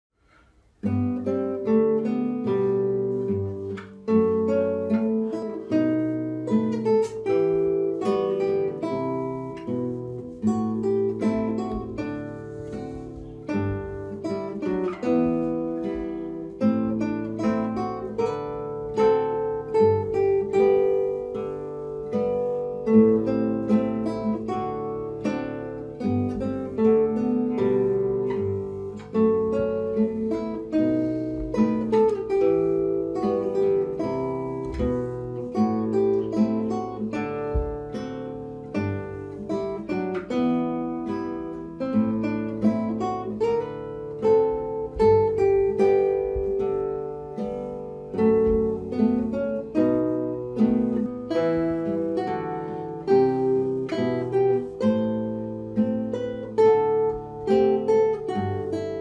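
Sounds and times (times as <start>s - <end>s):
classical guitar duet: 0.1s - 59.0s.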